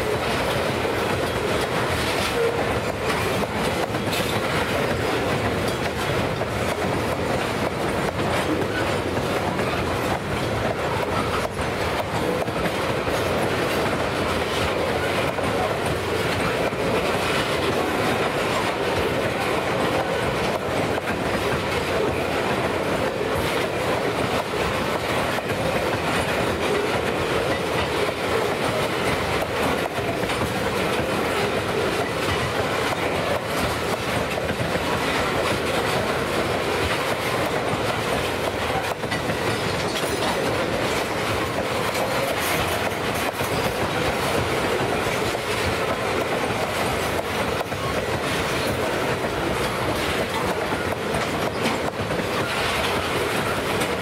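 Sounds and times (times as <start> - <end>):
freight train rolling past: 0.0 - 54.0
wheels clicking over rail joints: 0.0 - 54.0.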